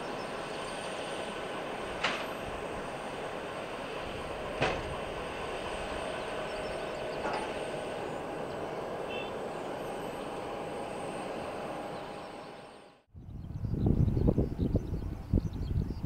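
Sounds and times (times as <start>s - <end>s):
jet engines running: 0.0s - 13.1s.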